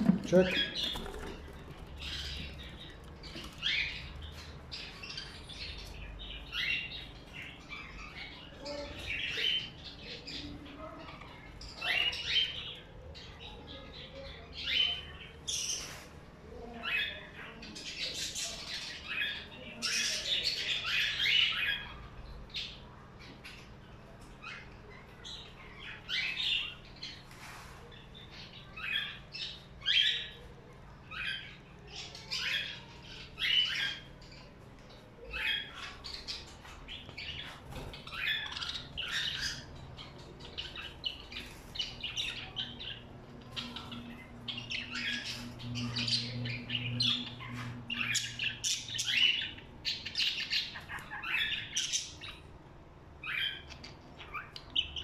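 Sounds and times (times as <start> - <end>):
birds squawking and chirping: 0.0 - 55.0.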